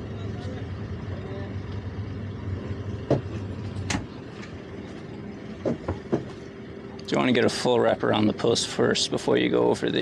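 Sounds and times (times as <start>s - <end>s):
outboard engine running: 0.0s - 10.0s.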